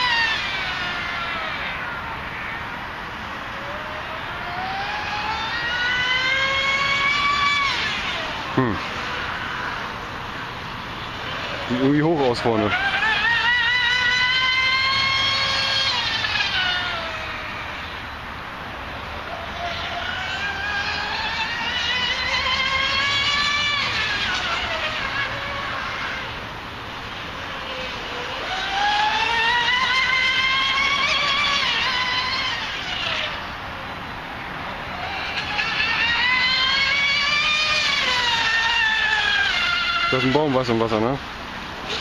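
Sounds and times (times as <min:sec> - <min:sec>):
rc boat motor whine: 0:00.0 - 0:42.0.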